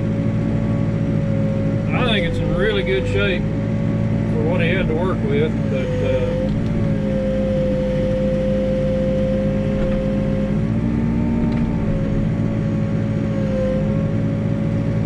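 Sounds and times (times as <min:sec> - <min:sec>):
diesel engine and hydraulics: 0:00.0 - 0:15.0.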